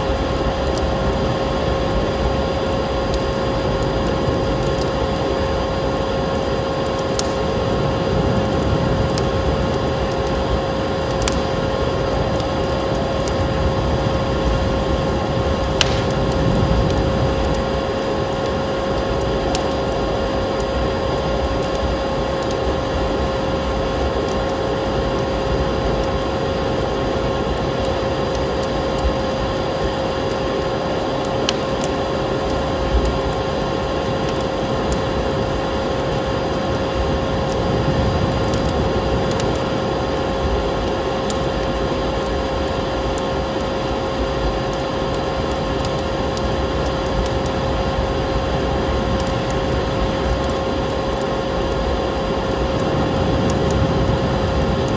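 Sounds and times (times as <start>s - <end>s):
constant hum: 0.0s - 54.9s
steady rushing noise: 0.0s - 54.9s
wood fire crackling: 0.0s - 54.9s.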